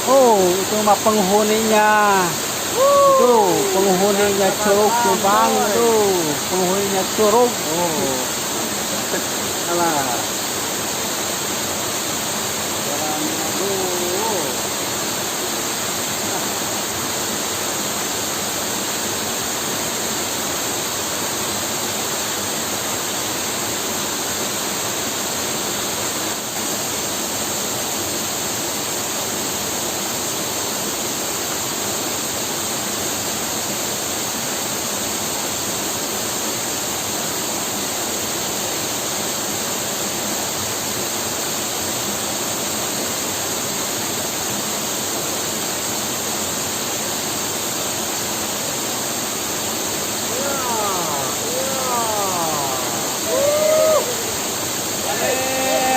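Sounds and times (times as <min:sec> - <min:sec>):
waterfall rushing: 0:00.0 - 0:28.5, 0:35.5 - 0:55.9.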